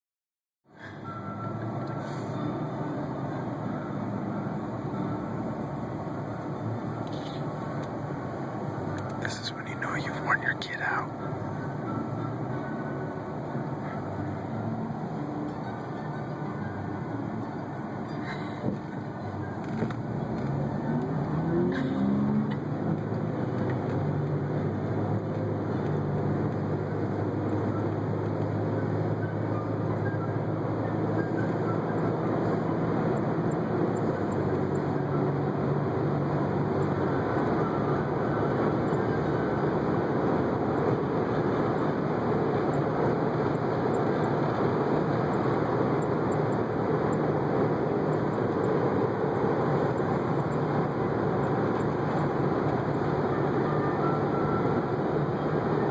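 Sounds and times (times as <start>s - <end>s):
moving vehicle noise: 0.6s - 55.9s.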